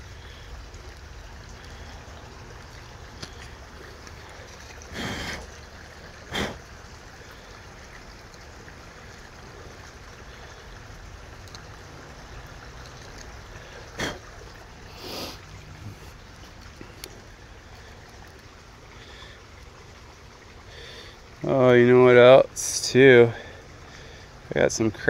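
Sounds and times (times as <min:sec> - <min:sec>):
rocky creek rushing: 0:00.0 - 0:25.0.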